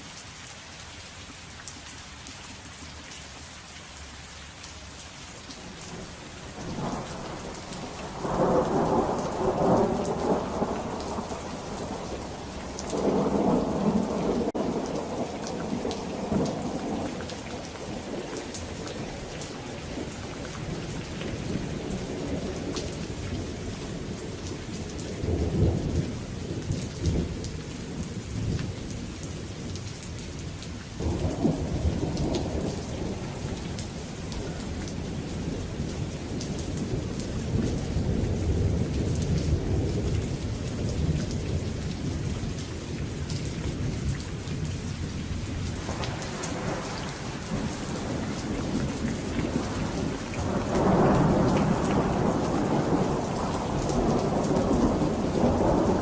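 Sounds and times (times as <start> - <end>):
steady rain: 0.0 - 56.0
thunder rumbling: 5.9 - 28.6, 31.0 - 56.0.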